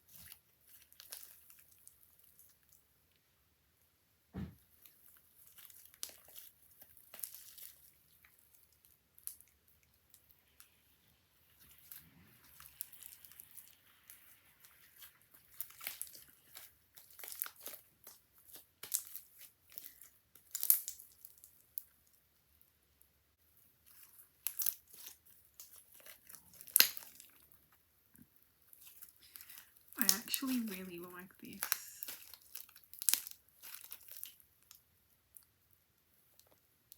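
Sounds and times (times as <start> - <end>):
slime crackling and popping: 0.0 - 2.9, 4.6 - 10.9, 11.5 - 22.6, 23.6 - 36.9.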